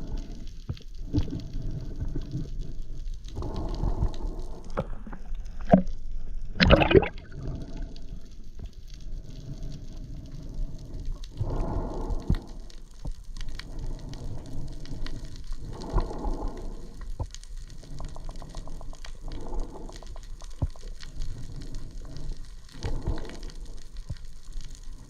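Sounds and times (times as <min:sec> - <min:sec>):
underwater water sloshing and gurgling: 0:00.0 - 0:25.0.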